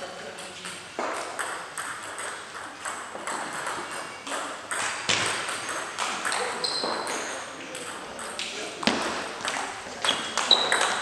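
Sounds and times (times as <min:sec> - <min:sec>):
table tennis balls clicking: 0:00.4 - 0:11.0.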